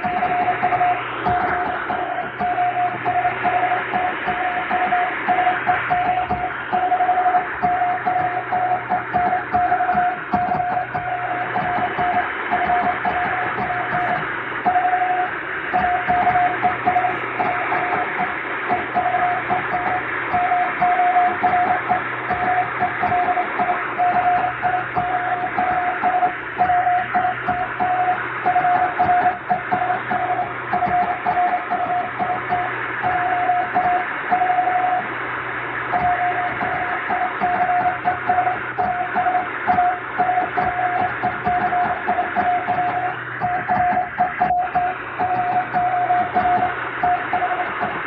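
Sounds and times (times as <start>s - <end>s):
morse code tone: 0.0s - 35.1s, 35.9s - 48.0s
static hiss: 0.0s - 48.0s.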